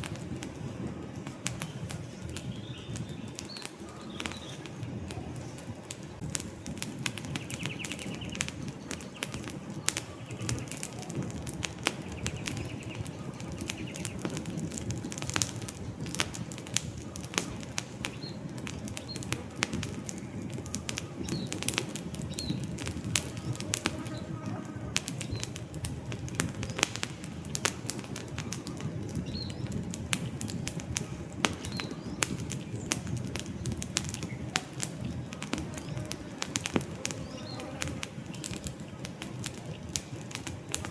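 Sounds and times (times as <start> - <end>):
campfire crackling and popping: 0.0 - 40.9
low rush of flame: 0.0 - 40.9.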